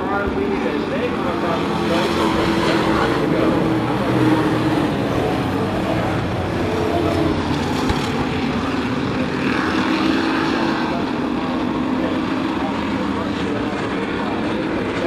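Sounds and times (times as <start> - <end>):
race trucks engines droning: 0.0 - 15.0.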